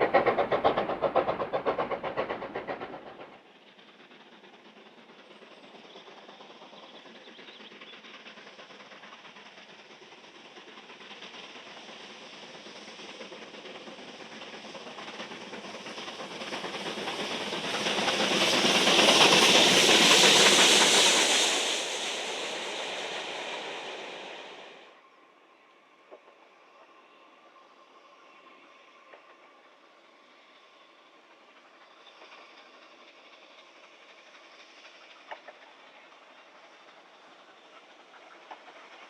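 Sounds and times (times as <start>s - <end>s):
steam train passing: 0.0s - 39.0s.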